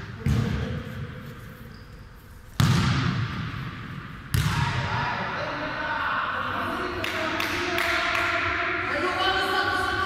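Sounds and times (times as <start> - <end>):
ball impacts echoing in hall: 0.0 - 10.0.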